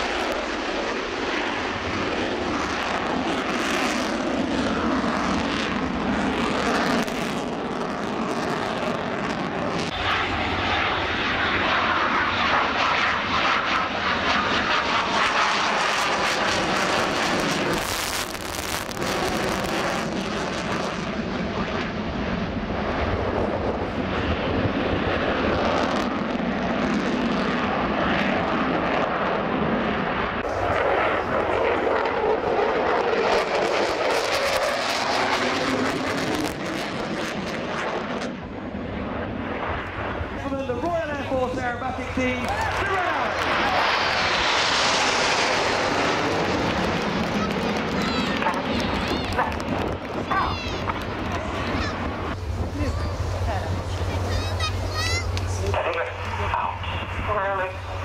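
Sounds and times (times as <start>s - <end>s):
fighter jet afterburner roar: 0.0s - 58.0s.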